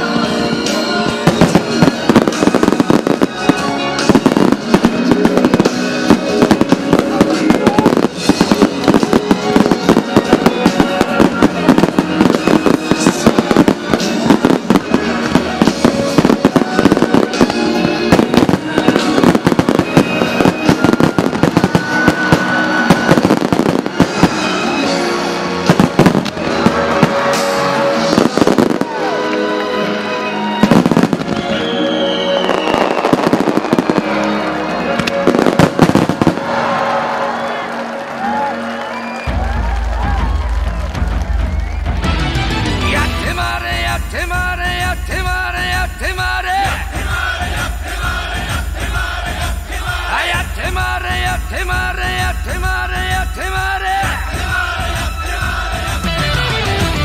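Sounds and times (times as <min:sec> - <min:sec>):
fireworks bursting: 0:00.0 - 0:57.0
music playing: 0:00.0 - 0:57.0.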